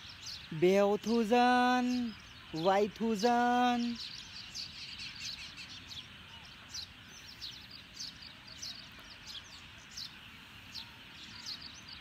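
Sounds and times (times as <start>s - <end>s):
bird and insect chorus: 0.0s - 12.0s
bird chirping: 0.0s - 12.0s.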